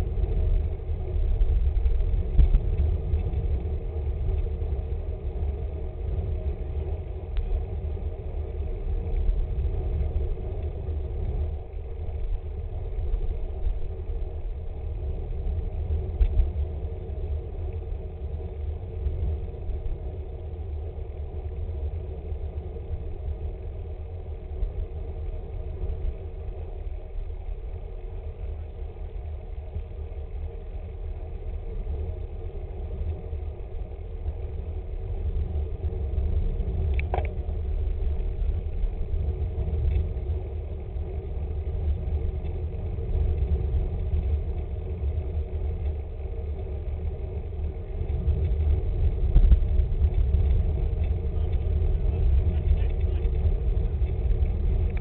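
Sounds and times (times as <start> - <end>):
bike tyres on asphalt: 0.0 - 55.0
wind rumble on microphone: 0.0 - 55.0.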